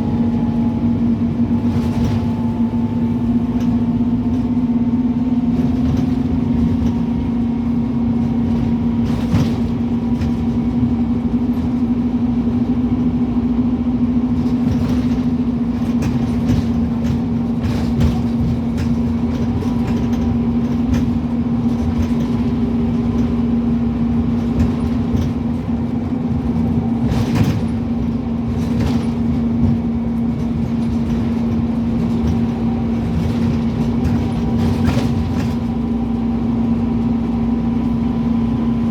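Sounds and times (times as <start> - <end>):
bus diesel engine droning: 0.0 - 38.9
road noise: 0.0 - 38.9.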